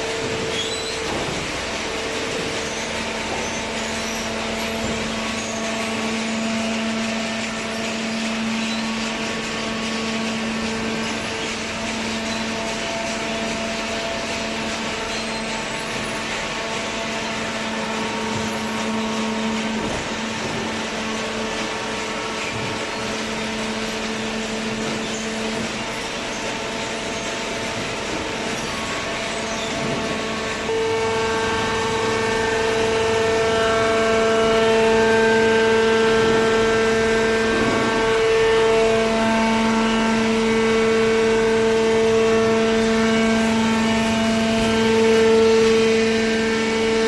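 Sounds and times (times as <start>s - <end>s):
baler machine hum and hiss: 0.0s - 47.0s
low machine whine: 0.0s - 47.0s.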